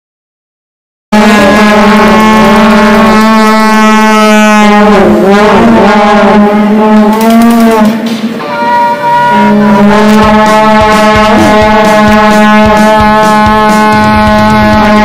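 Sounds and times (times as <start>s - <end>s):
loud arena horn: 1.1s - 15.0s.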